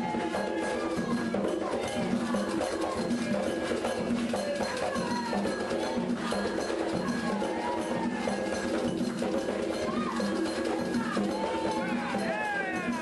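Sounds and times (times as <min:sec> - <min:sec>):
hand drums: 0:00.0 - 0:13.0
metal bell rhythm: 0:00.0 - 0:13.0
voices singing: 0:00.0 - 0:13.0.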